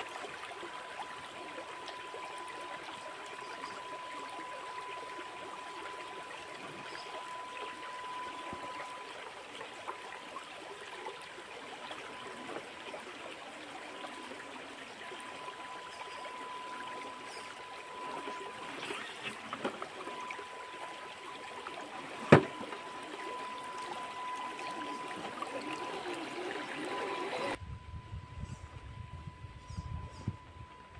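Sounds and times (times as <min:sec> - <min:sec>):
stream flowing over rocks: 0:00.0 - 0:27.6
thin steady whine: 0:00.0 - 0:30.9.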